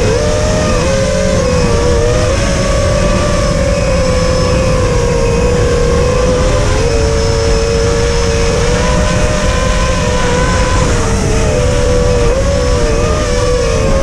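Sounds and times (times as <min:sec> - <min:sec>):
quadcopter motors whining: 0:00.0 - 0:14.0
rushing wind and prop wash: 0:00.0 - 0:14.0.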